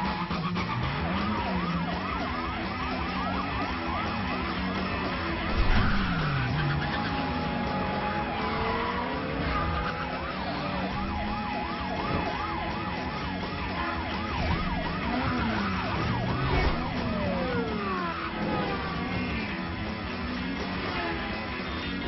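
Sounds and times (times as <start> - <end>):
car engine: 0.0 - 22.0
police sirens wailing: 0.0 - 22.0.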